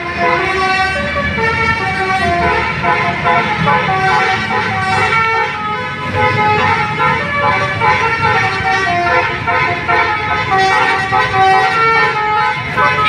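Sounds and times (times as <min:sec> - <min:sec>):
bus multi-tone horn melody: 0:00.0 - 0:13.0.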